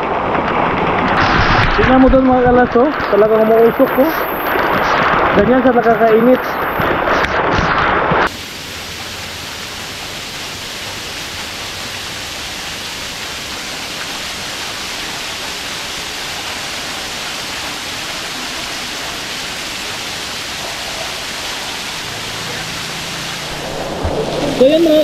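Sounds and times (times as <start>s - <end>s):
waterfall pouring over rock: 0.0s - 25.0s.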